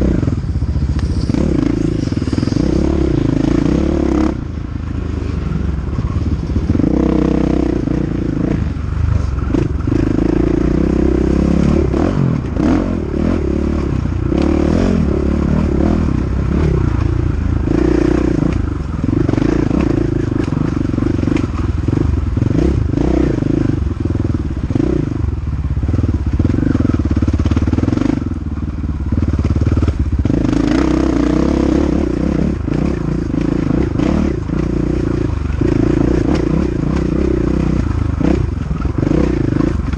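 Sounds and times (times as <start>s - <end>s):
dirt bike engine revving: 0.0s - 25.2s, 29.1s - 39.9s.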